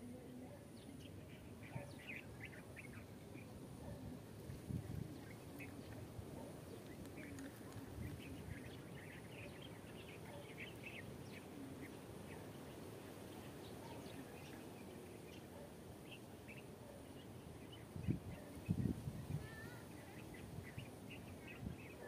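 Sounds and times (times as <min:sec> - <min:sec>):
birds chirping: 0:00.0 - 0:22.0
low outdoor background: 0:00.0 - 0:22.0.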